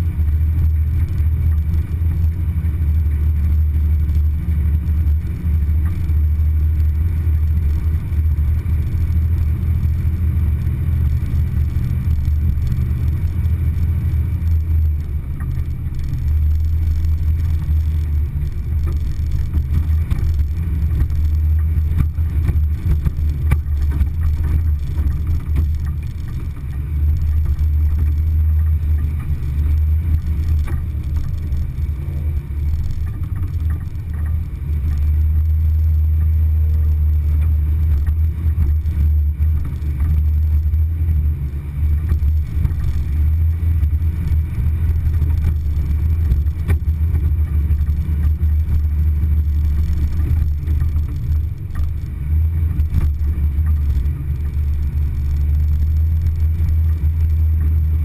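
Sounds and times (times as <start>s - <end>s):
off-road vehicle rumble: 0.0s - 58.0s.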